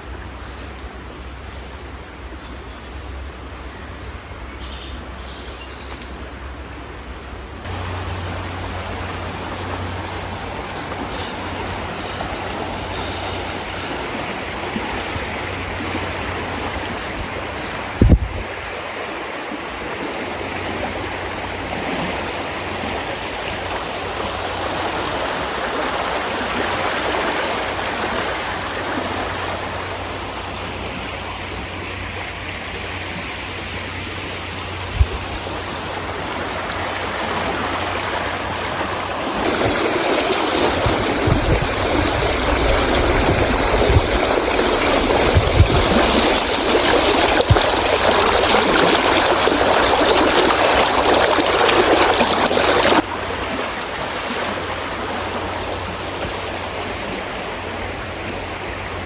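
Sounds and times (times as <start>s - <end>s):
heavy rain hissing: 6.3s - 59.0s.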